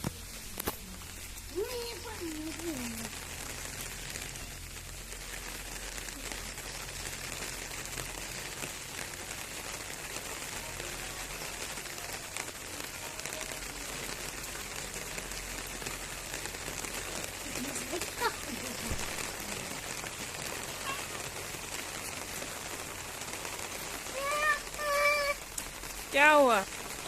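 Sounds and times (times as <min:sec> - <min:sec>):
rain pattering on surfaces: 0:00.0 - 0:27.0.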